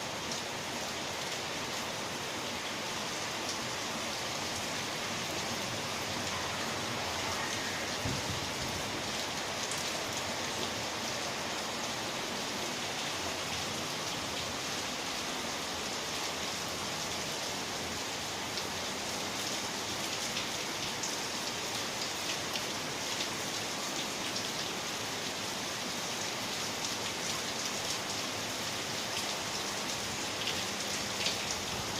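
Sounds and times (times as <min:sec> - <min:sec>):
rain splashing on surfaces: 0:00.0 - 0:31.9.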